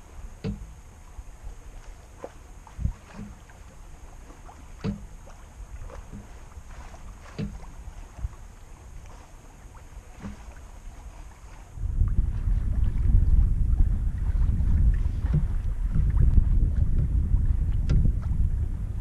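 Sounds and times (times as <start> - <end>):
low rumble of moving water: 0.0 - 19.0
small waves slapping a hull: 0.0 - 19.0.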